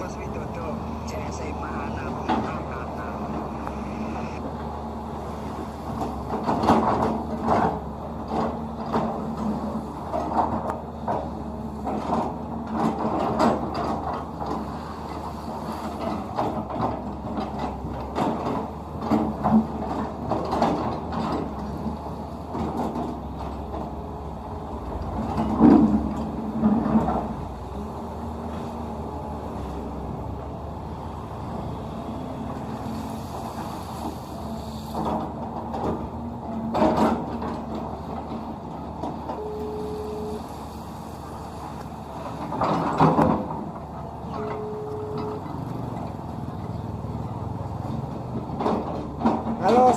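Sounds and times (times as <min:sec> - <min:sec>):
diesel engine running: 0:00.0 - 0:49.9
excavator clanking: 0:00.0 - 0:49.9.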